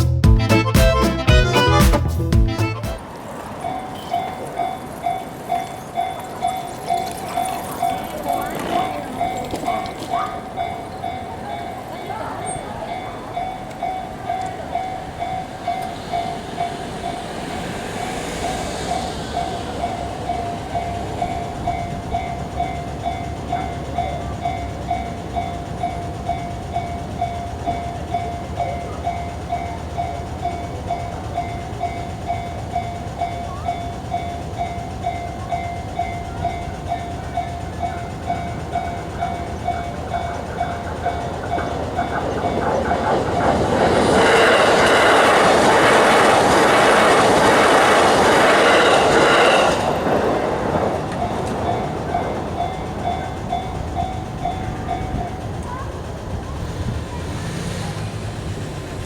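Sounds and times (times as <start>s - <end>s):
low train rumble: 0.0s - 59.0s
level crossing warning bell: 3.0s - 57.6s.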